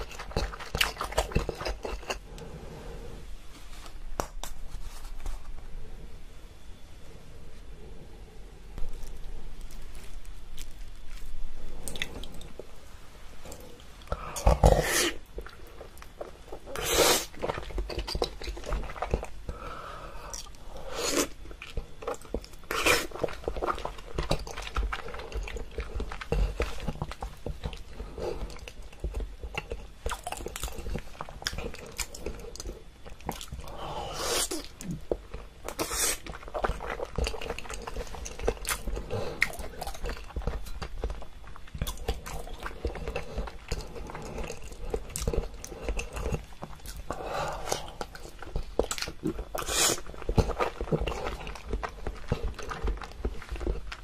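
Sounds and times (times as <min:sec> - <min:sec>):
person chewing food: 0:00.0 - 0:03.0, 0:08.8 - 0:12.8, 0:13.4 - 0:54.0.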